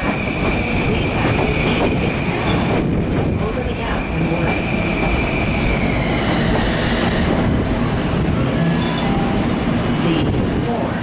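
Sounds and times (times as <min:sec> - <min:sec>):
train high whine: 0:00.0 - 0:11.0
train rumbling past: 0:00.0 - 0:11.0.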